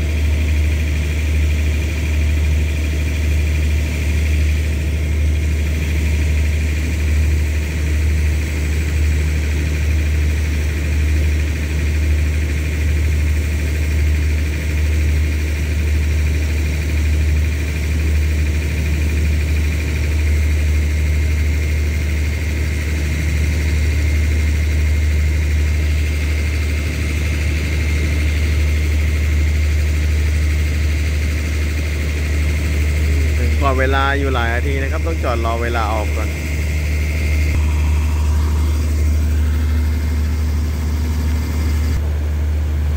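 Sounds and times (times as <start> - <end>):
diesel train engine idling: 0.0 - 42.9
high steady whine: 0.0 - 42.9.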